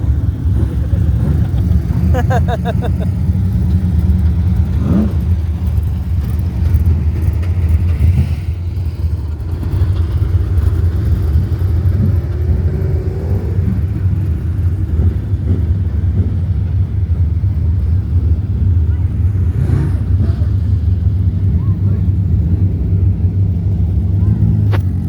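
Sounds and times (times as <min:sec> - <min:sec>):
engine revving: 0:00.0 - 0:25.0
racing car engines rumbling: 0:00.0 - 0:25.0.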